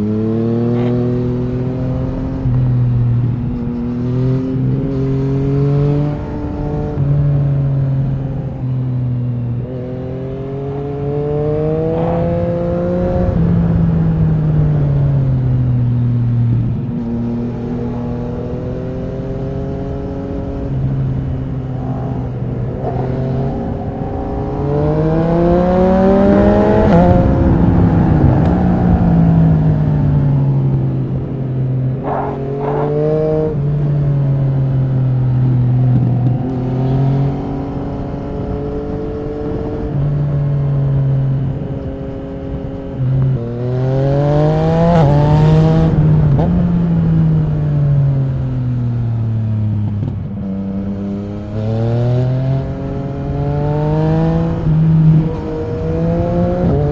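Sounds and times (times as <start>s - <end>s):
motorcycle engine revving: 0.0s - 56.9s
wind noise: 0.0s - 56.9s.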